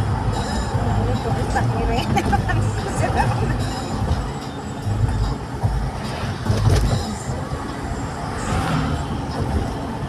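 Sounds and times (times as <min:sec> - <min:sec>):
road noise: 0:00.0 - 0:10.0
vehicle engine rumble: 0:00.0 - 0:10.0.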